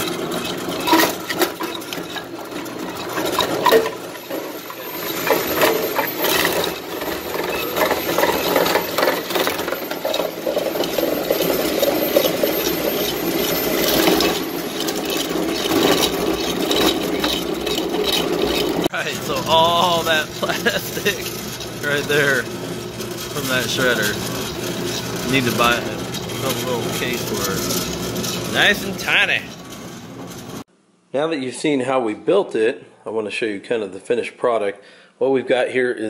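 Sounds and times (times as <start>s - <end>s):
motor hum: 0.0s - 30.6s
plastic shredder crunching plastic: 0.0s - 30.6s.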